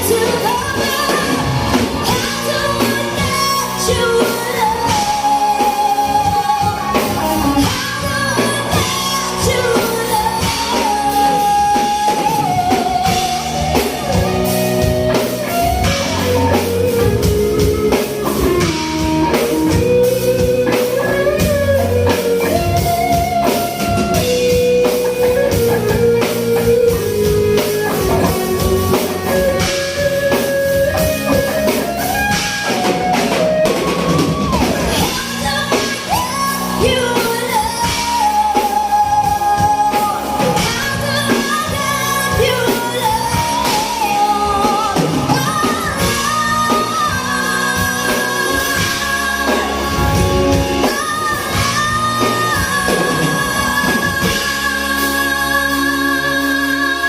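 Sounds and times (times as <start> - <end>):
person singing: 0.0 - 57.0
rock ballad with guitar and drums: 0.0 - 57.0.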